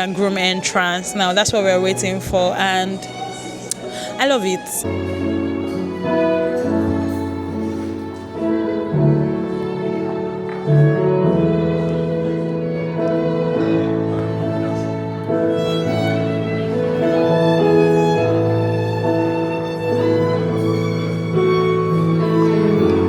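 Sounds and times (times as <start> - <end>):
slow string music: 0.0 - 23.0.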